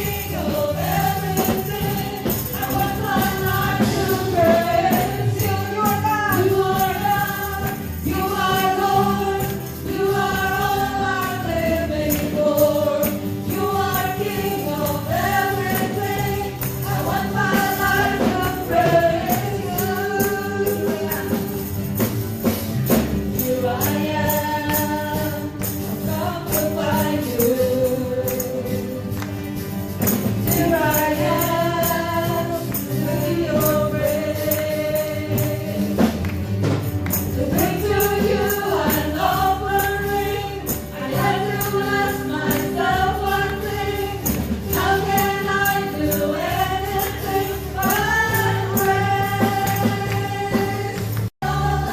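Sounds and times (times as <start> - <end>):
group of voices singing: 0.0 - 22.1, 23.0 - 36.4, 37.1 - 51.9
band playing gospel: 0.0 - 51.9
tambourine shaking and striking: 0.0 - 51.9.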